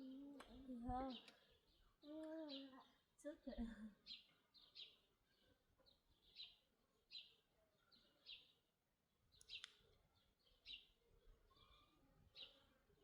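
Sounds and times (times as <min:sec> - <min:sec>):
small bird chirping: 0:00.0 - 0:08.7, 0:09.3 - 0:13.0.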